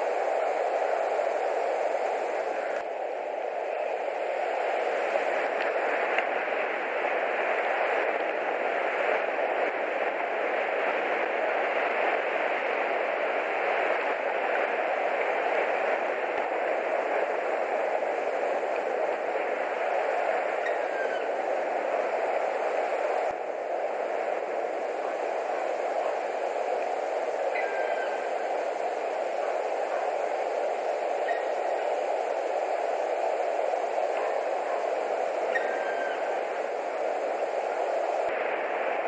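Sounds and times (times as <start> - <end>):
steady rain hiss: 0.0 - 39.0.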